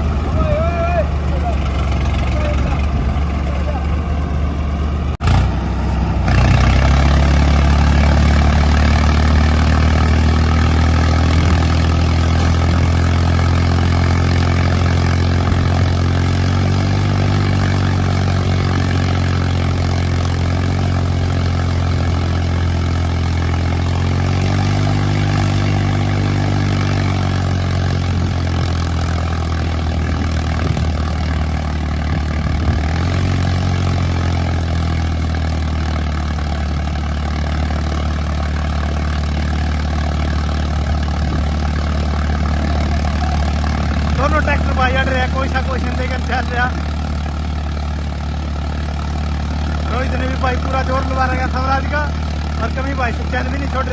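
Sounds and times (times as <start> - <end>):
diesel tractor engines straining: 0.0 - 53.9.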